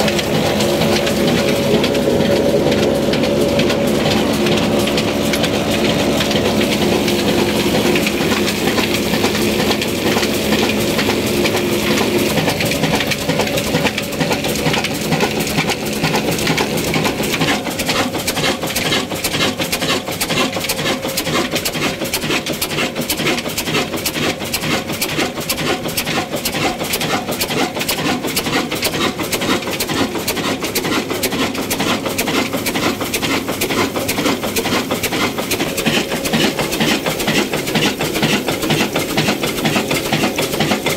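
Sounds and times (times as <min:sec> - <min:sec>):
diesel engine knocking: 0:00.0 - 0:40.9
line shaft machinery hum: 0:00.0 - 0:40.9.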